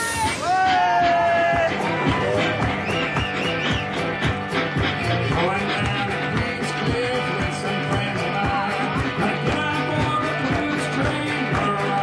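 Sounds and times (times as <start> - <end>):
blues band electric guitar: 0.0 - 12.0.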